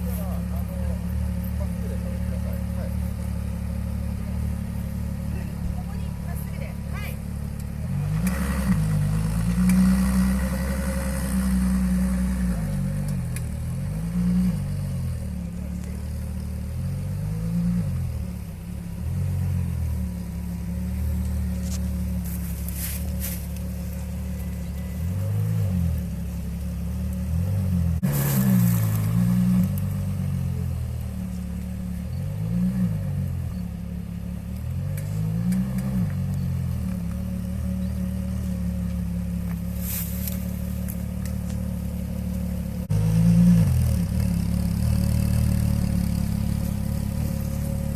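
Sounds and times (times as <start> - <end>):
car engines revving lightly: 0.0 - 47.9.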